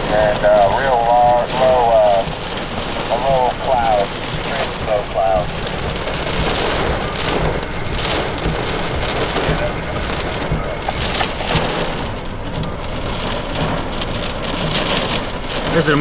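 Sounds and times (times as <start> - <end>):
heavy wind-driven rain: 0.0 - 16.0.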